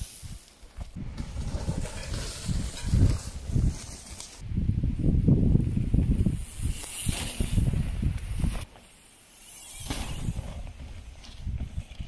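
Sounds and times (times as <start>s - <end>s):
bike tyres rumbling over dirt: 0.0s - 4.4s, 5.0s - 12.0s
wind on microphone: 1.0s - 8.7s, 9.8s - 12.0s.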